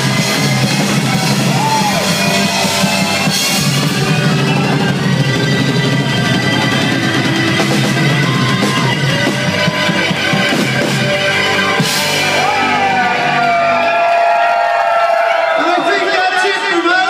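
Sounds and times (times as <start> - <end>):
live rock band playing: 0.0 - 14.6.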